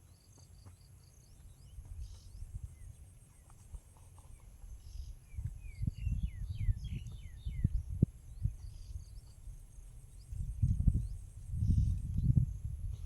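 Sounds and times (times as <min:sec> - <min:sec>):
bird chirping: 0:00.0 - 0:13.0
insects droning: 0:00.0 - 0:13.0.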